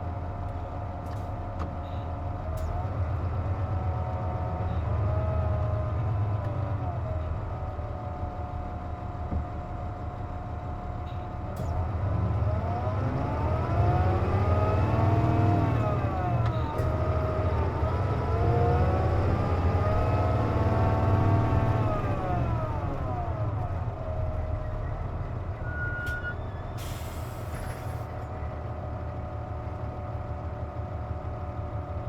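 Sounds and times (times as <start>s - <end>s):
bus engine rumble: 0.0s - 32.0s.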